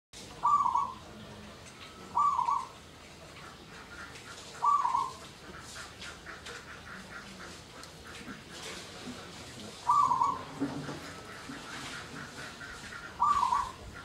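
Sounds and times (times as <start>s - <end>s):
dove cooing: 0.3s - 1.4s, 2.0s - 2.8s, 3.4s - 14.0s.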